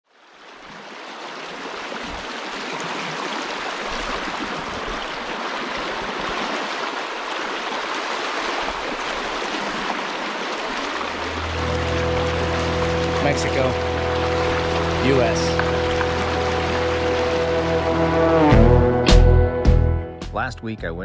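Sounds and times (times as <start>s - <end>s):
rush of running river water: 0.1s - 18.6s.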